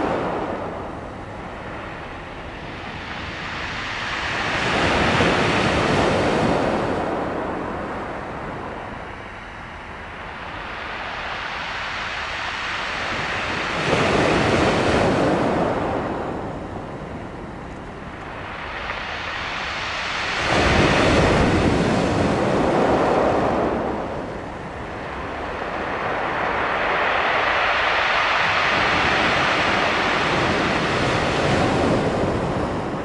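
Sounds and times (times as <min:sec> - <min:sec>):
waves washing onto shore: 0:00.0 - 0:33.0.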